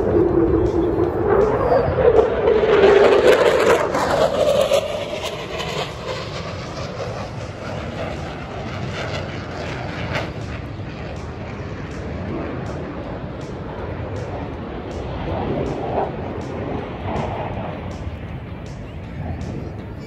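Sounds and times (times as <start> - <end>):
jet engine passing overhead: 0.0 - 20.0.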